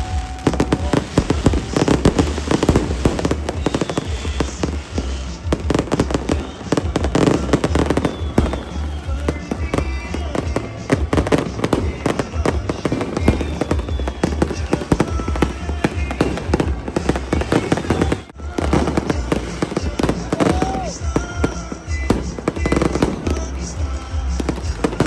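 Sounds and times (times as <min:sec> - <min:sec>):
fireworks bangs and crackles: 0:00.0 - 0:25.0
music: 0:00.0 - 0:25.0
voices: 0:00.0 - 0:25.0.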